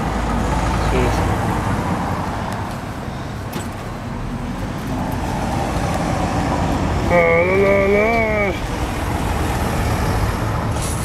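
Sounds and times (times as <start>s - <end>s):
cars passing on a street: 0.0s - 11.0s.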